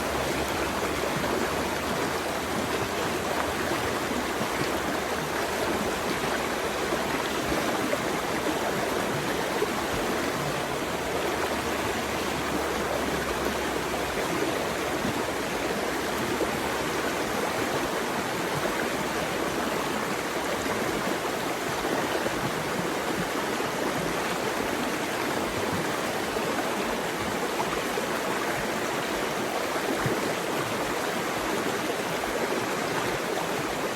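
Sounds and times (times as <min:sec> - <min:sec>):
running water rushing: 0:00.0 - 0:33.9.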